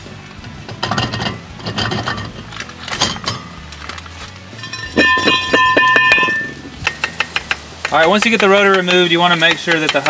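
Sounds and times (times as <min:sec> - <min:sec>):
brake rotor clanking on concrete: 0:00.4 - 0:03.8, 0:04.6 - 0:10.0.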